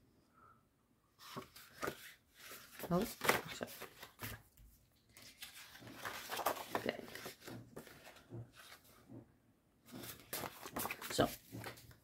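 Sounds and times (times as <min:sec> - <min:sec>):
paper sheets rustling: 0:01.2 - 0:09.0, 0:09.9 - 0:12.0.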